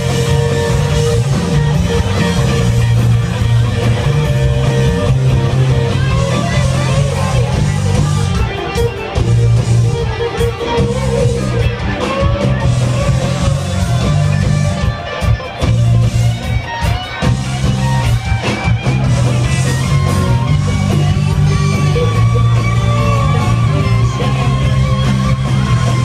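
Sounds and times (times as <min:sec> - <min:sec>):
live band playing amplified music: 0:00.0 - 0:26.0.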